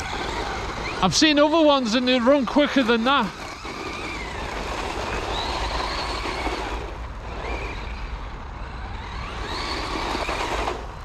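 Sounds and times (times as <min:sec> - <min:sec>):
electric motor whining: 0:00.0 - 0:11.0
tyres rushing: 0:00.0 - 0:11.0.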